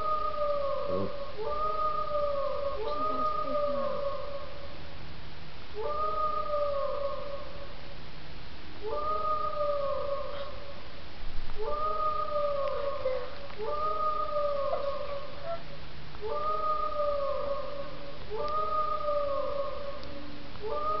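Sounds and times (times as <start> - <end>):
dog howling: 0.0 - 4.6, 5.8 - 7.7, 8.8 - 10.8, 11.6 - 21.0.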